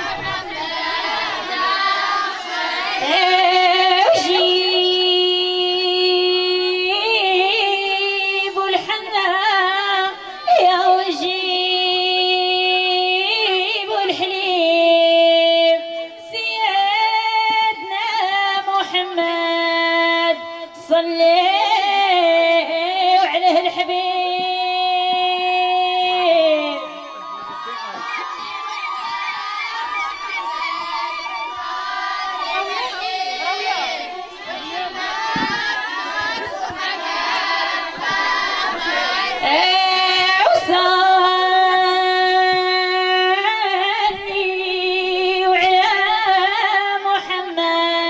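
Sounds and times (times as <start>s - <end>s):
woman chanting: 0.0s - 27.0s, 29.4s - 48.0s.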